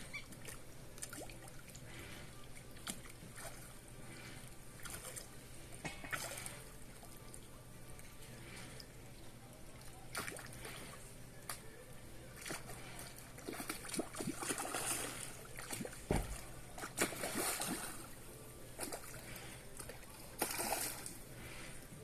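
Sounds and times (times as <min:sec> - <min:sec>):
water splashing and sloshing: 0:00.0 - 0:11.7, 0:12.3 - 0:22.0.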